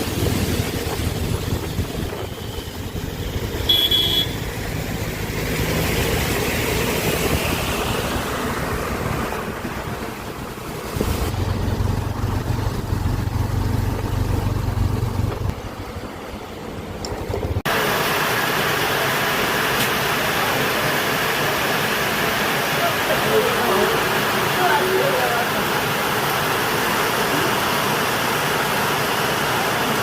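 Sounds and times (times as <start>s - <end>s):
road vehicles engine hum: 0.0s - 30.0s.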